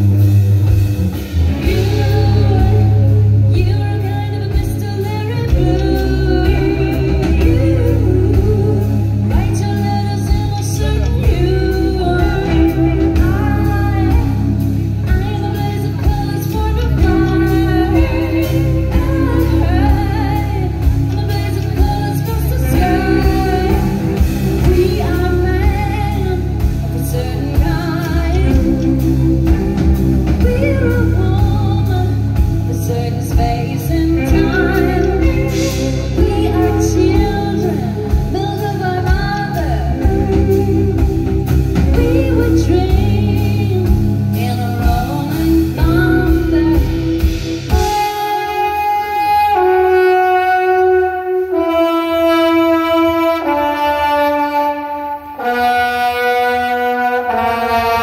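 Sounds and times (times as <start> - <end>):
bass: 0.0 - 58.0
drums: 0.0 - 58.0
wind instrument long held notes: 1.1 - 58.0
person singing: 1.4 - 58.0.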